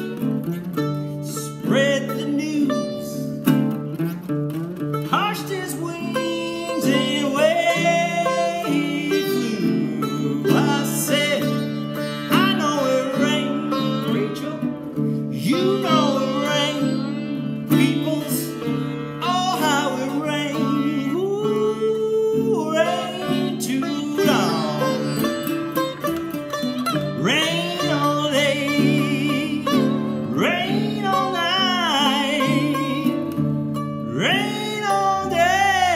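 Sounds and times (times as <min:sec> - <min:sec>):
baritone ukulele: 0:00.0 - 0:35.9
sitar melody: 0:00.0 - 0:35.9.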